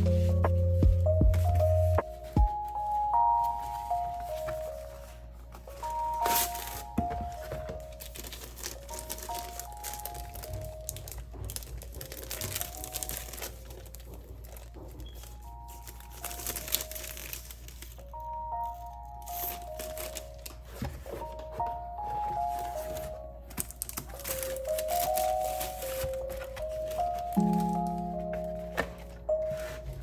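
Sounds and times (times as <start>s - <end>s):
soft background music: 0.0s - 30.0s
packaging crinkling and rustling: 1.4s - 30.0s.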